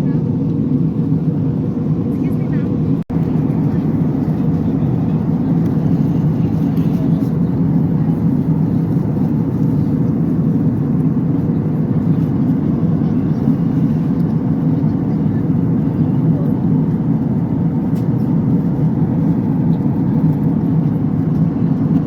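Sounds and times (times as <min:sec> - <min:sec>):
airliner engine roar in cabin: 0:00.0 - 0:22.0.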